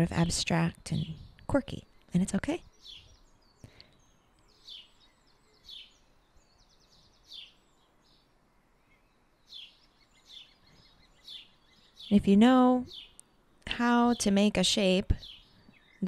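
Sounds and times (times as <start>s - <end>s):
faint bird chirps: 0.1s - 12.2s, 12.8s - 16.0s.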